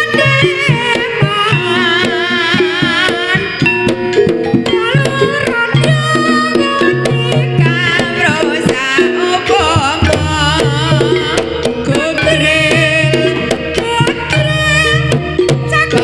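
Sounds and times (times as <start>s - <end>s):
gamelan tones: 0.0s - 16.0s
hand-drum strokes: 0.0s - 16.0s
sliding melody line: 0.0s - 16.0s.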